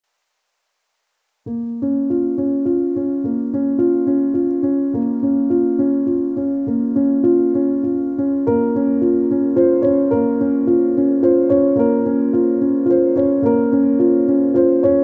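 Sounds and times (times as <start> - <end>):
gentle piano music: 1.5 - 15.0.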